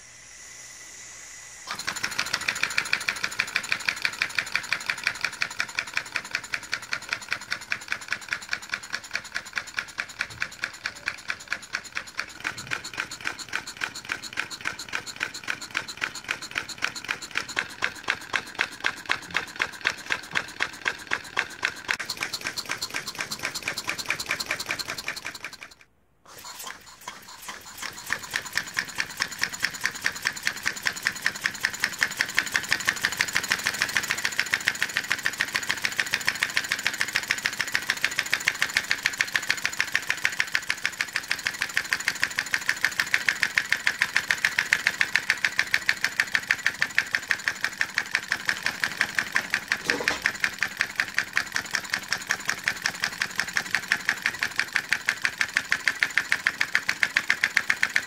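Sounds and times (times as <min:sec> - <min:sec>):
air engine puffing and clicking: 0:01.7 - 0:58.0.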